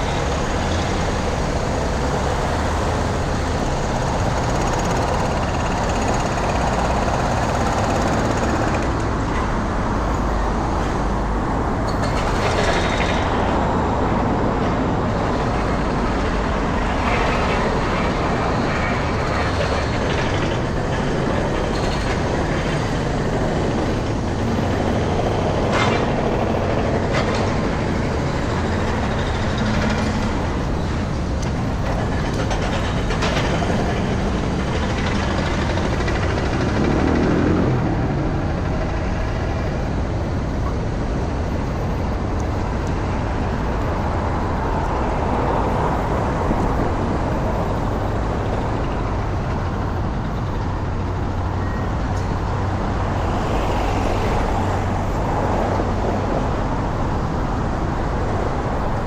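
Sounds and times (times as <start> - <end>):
city traffic rumble: 0.0 - 59.0.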